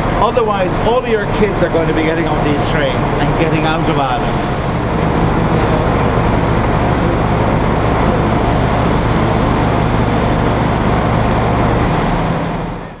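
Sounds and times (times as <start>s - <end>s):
train engine rumbling: 0.0s - 13.0s.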